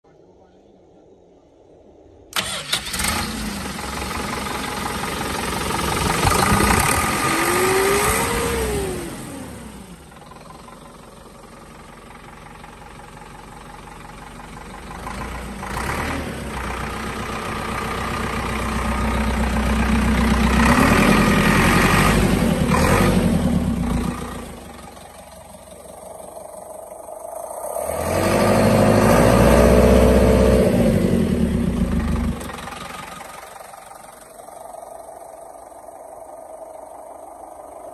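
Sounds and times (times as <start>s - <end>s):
tractor diesel engine revving: 2.3s - 37.9s.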